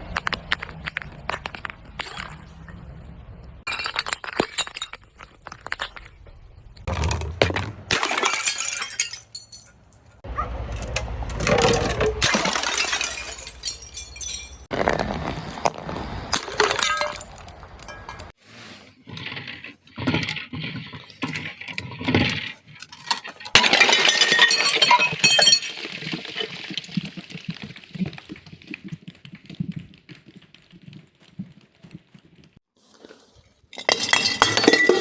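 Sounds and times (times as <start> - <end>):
glass bottles crushing and breaking: 0.0 - 2.8, 3.5 - 10.2, 11.4 - 18.4, 19.1 - 32.5, 33.7 - 35.0.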